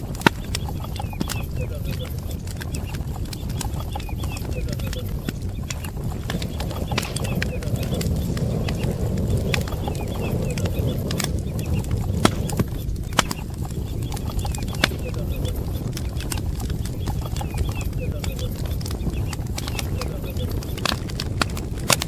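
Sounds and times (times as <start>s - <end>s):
ducklings peeping: 0.0s - 21.5s
fire crackling and popping: 0.0s - 22.0s.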